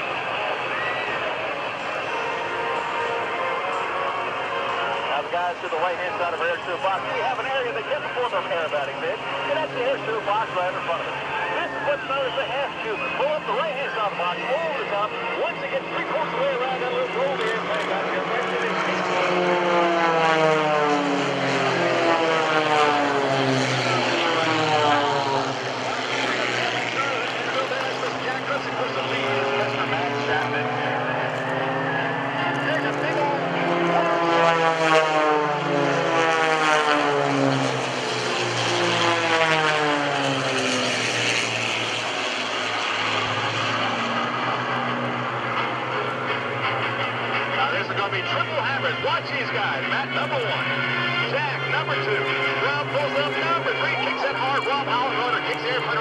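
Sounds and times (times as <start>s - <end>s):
propeller plane engine passing: 0.0s - 56.0s.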